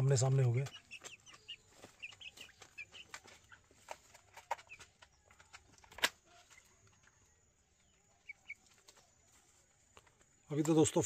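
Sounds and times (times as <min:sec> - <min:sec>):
chicks peeping and clucking: 0:00.0 - 0:11.0.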